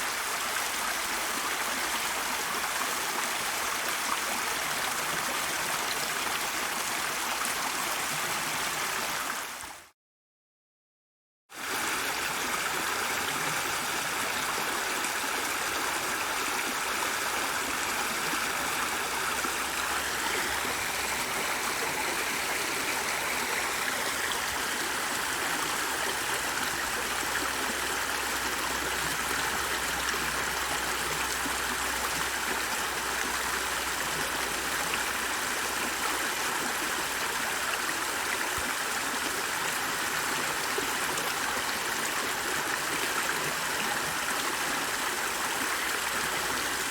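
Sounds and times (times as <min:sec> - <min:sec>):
stream water rushing: 0:00.0 - 0:09.7, 0:11.6 - 0:46.9.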